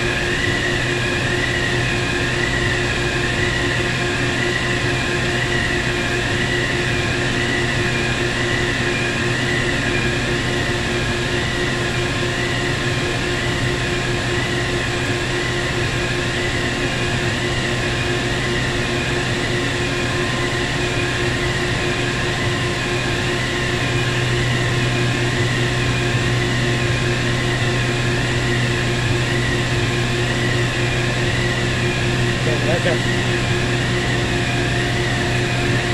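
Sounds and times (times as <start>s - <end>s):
machinery low hum: 0.0s - 35.9s
wavering high whine: 0.0s - 35.9s.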